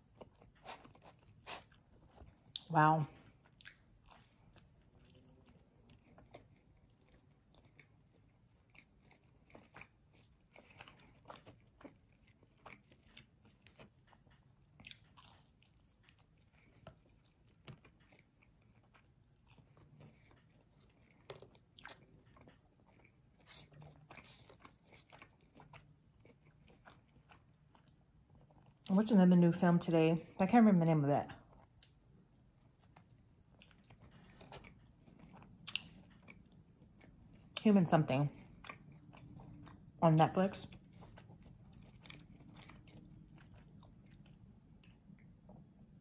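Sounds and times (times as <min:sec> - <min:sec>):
chewing and crunching food: 0:00.0 - 0:46.0.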